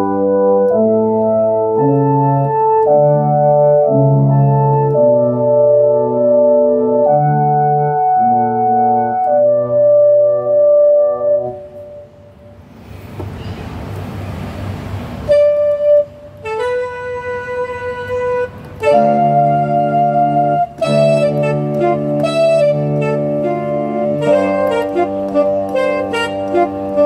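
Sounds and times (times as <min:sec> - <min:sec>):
keyboard wind and brass chords: 0:00.0 - 0:12.8, 0:14.9 - 0:27.0.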